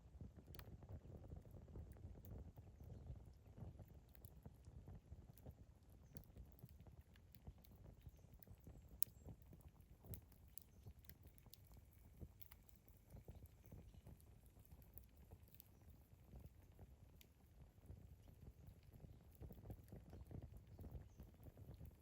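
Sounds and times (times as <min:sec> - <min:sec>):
campfire flames rumbling: 0:00.0 - 0:22.0
fire crackling and popping: 0:00.1 - 0:22.0.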